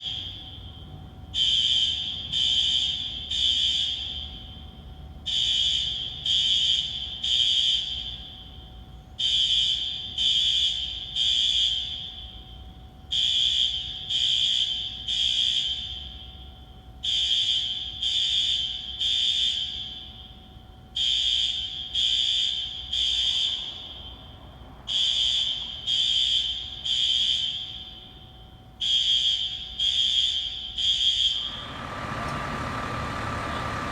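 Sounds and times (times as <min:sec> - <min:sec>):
smoke alarm beeping: 0:00.0 - 0:04.7, 0:05.3 - 0:32.3.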